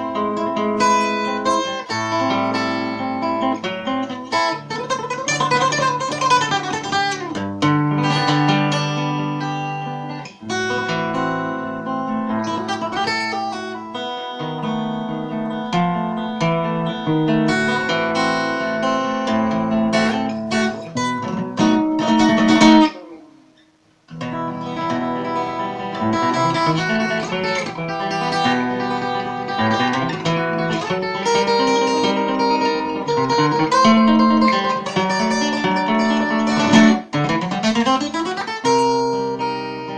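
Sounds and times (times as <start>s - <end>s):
acoustic guitar flamenco piece: 0.0s - 39.9s.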